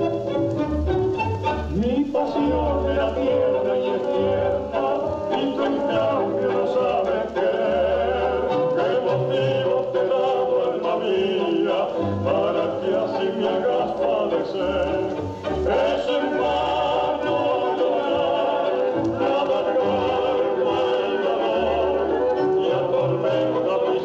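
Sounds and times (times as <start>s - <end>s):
slow tango music: 0.0s - 24.0s.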